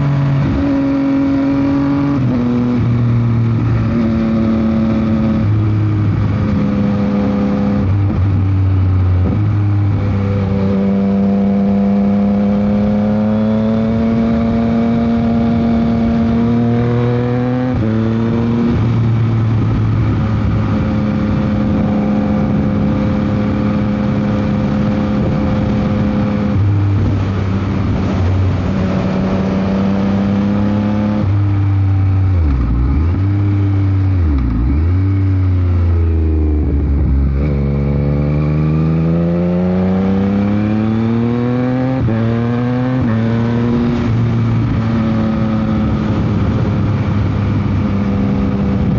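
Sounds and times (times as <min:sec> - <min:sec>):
heavy wind noise: 0:00.0 - 0:48.9
motorcycle engine cruising: 0:00.0 - 0:48.9.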